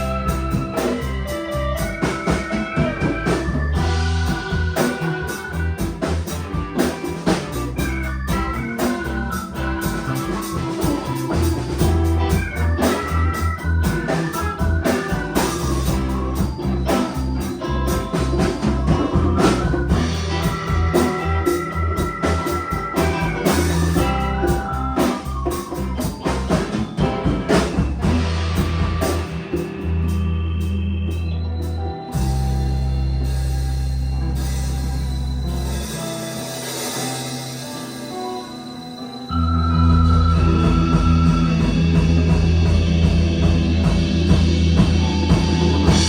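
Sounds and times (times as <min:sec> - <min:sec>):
live band playing: 0:00.0 - 0:46.0.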